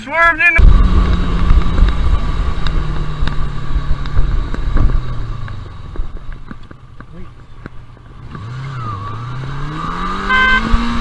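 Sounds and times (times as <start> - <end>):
motorcycle engine running: 0.6 - 11.0.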